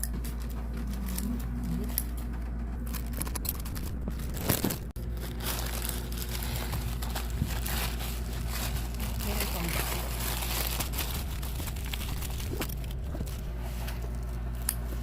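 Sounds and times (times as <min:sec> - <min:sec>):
steady low hum: 0:00.0 - 0:15.0
packaging crinkling and rustling: 0:00.2 - 0:15.0.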